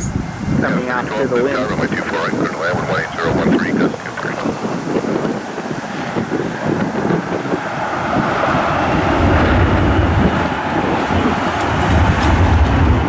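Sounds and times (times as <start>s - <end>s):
jet aircraft rushing noise: 0.0s - 13.0s
wind buffeting microphone: 0.0s - 13.0s.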